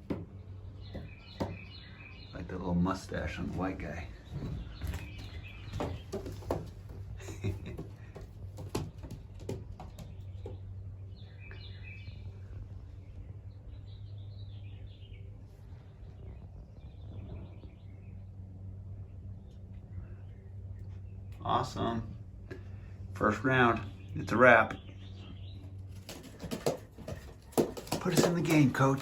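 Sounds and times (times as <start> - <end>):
steady low hum: 0.0 - 29.0
young pigeons peeping: 0.0 - 29.0.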